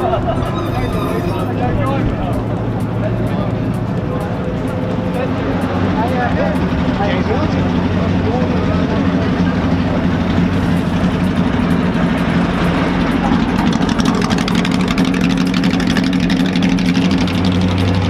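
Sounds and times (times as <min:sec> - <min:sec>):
sports car engine idling: 0:00.0 - 0:18.0.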